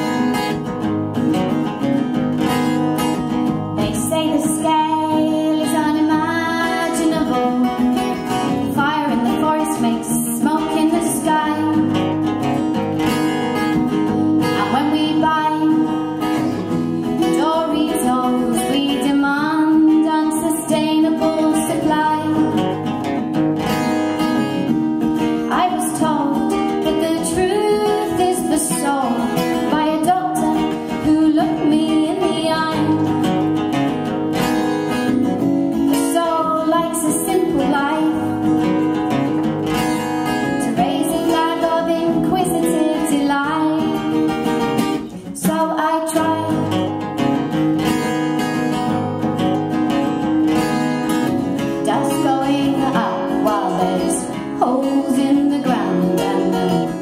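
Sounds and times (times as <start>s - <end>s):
acoustic guitars playing folk: 0.0s - 57.0s
woman singing: 2.6s - 33.8s, 34.9s - 49.0s, 49.8s - 57.0s.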